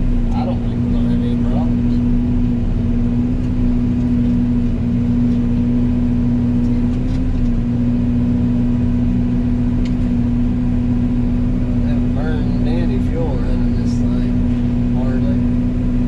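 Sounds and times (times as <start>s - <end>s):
mulcher machine drone: 0.0s - 16.0s.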